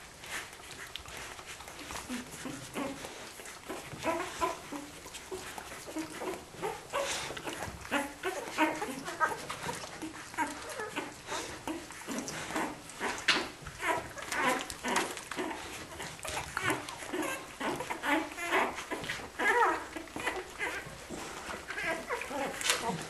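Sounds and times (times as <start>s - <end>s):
puppies squeaking and whimpering: 0.2s - 23.0s.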